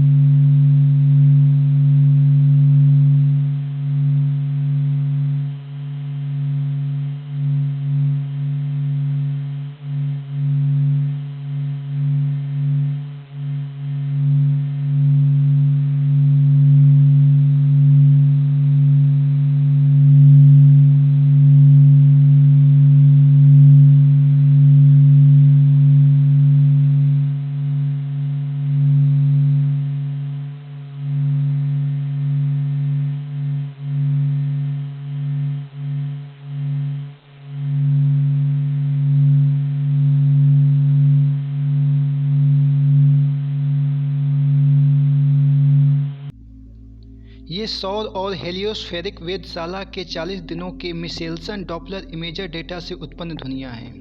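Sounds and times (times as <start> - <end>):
deep hum with overtone: 0.0 - 54.0.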